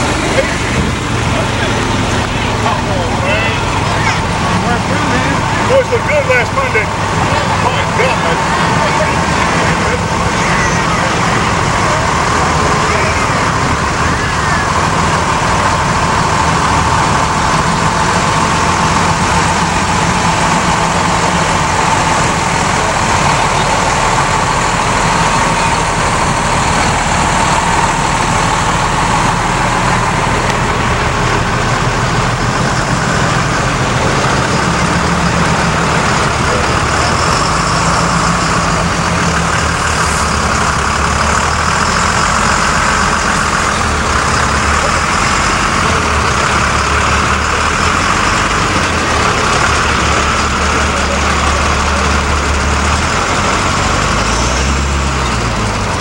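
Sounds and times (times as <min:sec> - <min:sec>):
diesel engines rolling past: 0:00.0 - 0:56.0.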